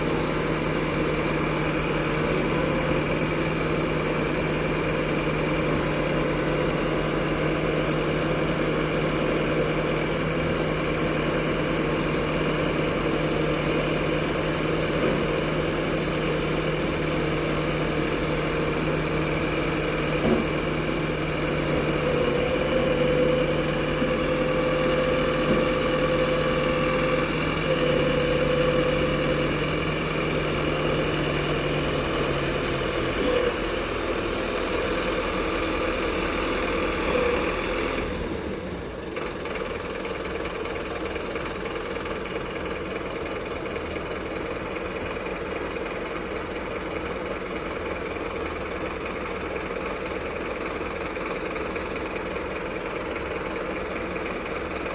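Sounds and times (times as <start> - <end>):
diesel truck engine running: 0.0 - 54.9.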